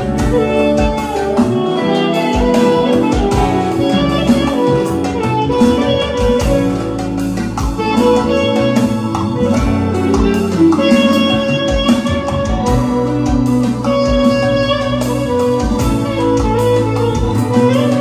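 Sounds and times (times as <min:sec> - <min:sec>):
bass: 0:00.0 - 0:18.0
plucked-string lead melody: 0:00.0 - 0:18.0
steady drum beat: 0:00.0 - 0:18.0.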